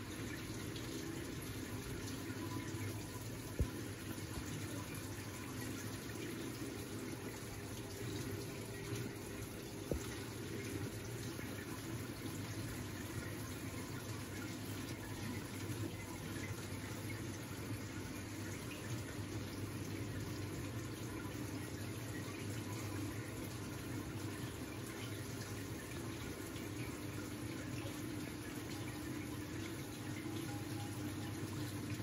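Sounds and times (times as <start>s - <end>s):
low steady hum: 0.0s - 32.0s
water running and trickling: 0.0s - 32.0s.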